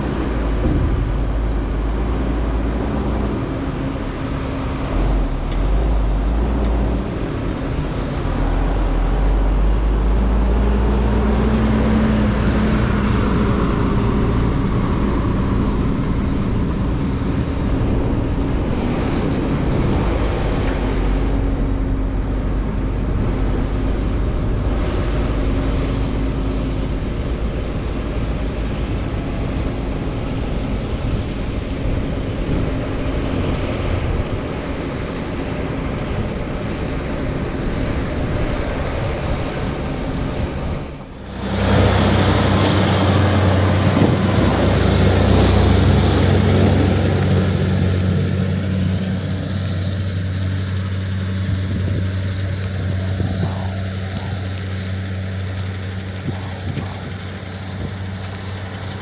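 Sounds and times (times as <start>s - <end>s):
diesel farm machinery running: 0.0s - 59.0s.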